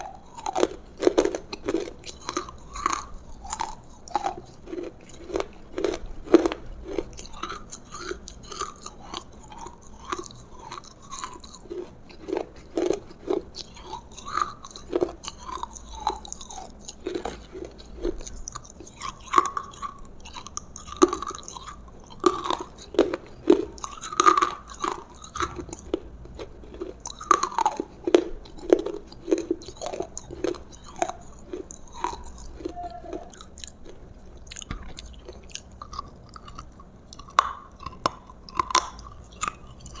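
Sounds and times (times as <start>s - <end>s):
crunchy bites: 0.0s - 40.0s.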